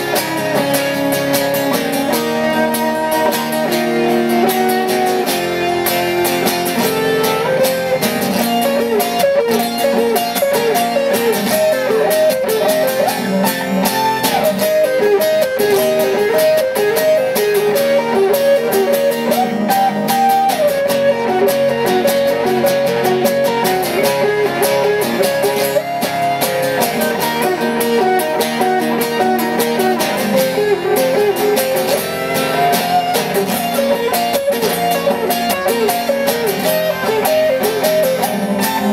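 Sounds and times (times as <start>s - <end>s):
lead acoustic guitar solo: 0.0s - 38.9s
strummed guitar chords: 0.0s - 38.9s.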